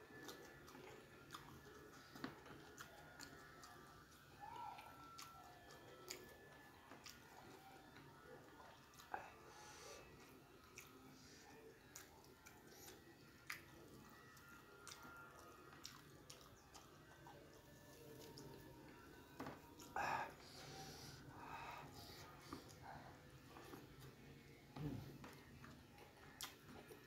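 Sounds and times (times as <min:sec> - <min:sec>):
chewing and lip smacks: 0:00.0 - 0:21.0, 0:22.0 - 0:27.0.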